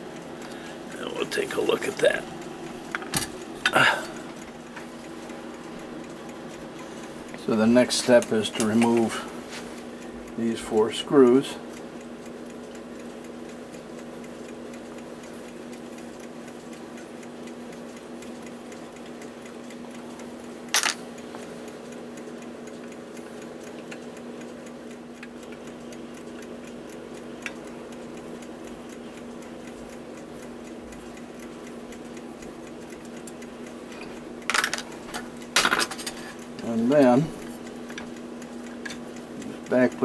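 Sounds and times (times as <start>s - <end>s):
clock ticking: 0.0s - 40.0s.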